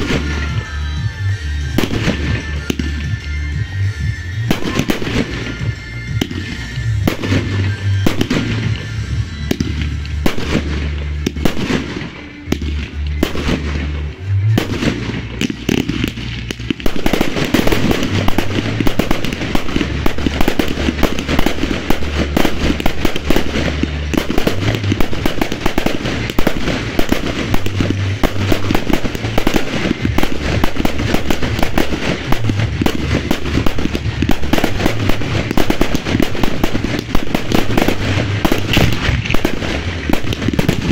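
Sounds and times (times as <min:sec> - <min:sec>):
fireworks bangs and crackle: 0:00.0 - 0:40.9
music with bass line: 0:00.0 - 0:40.9.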